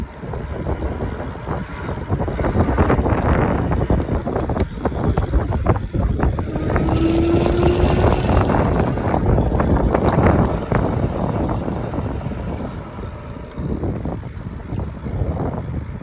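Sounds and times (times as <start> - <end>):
folding clamp rattling and buzzing: 0.0 - 16.0
road rumble: 0.0 - 16.0
steady hum: 0.0 - 16.0
wind on microphone: 0.0 - 16.0.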